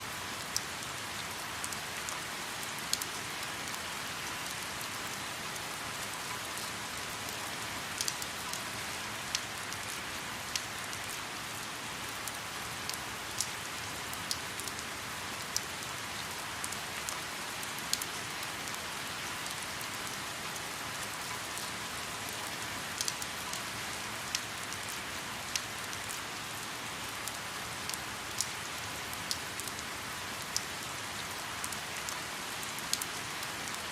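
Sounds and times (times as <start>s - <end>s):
light rain hissing on water: 0.0s - 33.9s.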